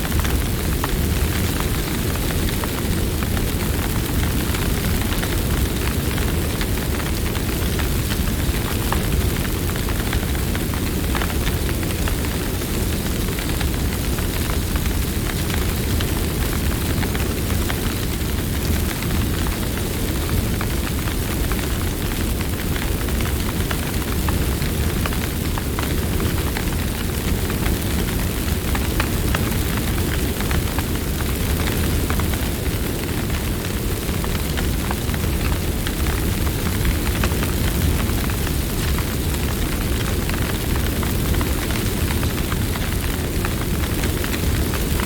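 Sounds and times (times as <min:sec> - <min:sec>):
campfire flames rumbling: 0:00.0 - 0:45.0
wood crackling and popping: 0:00.0 - 0:45.0.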